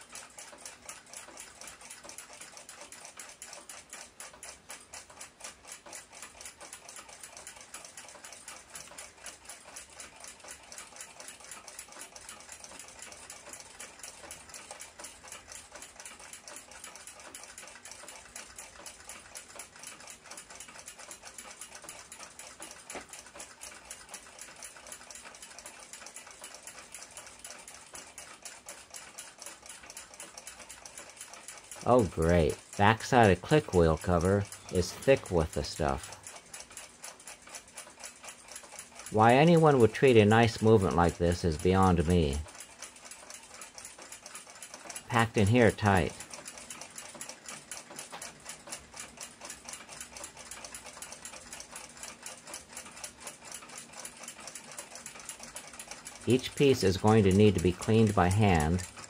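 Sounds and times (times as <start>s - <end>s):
clock ticking fast: 0.0s - 59.0s.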